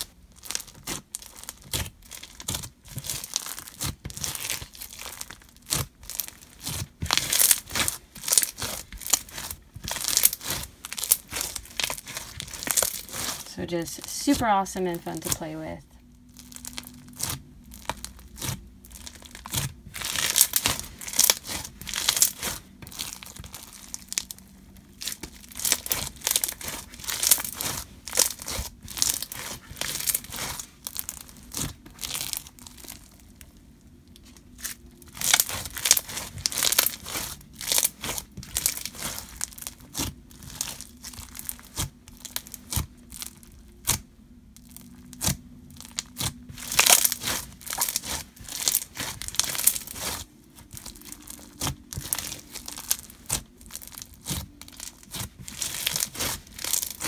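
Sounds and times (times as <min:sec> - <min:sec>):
slime crackling crunches: 0:00.0 - 0:57.0.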